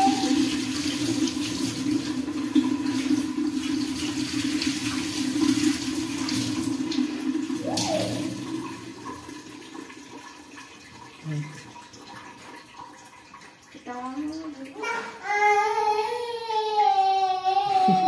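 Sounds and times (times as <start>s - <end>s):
water running: 0.0s - 18.0s.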